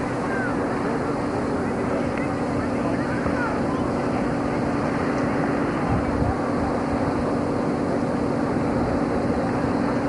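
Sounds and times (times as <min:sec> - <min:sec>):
low mechanical hum: 0:00.0 - 0:10.0
wind rumbling on microphone: 0:00.0 - 0:10.0.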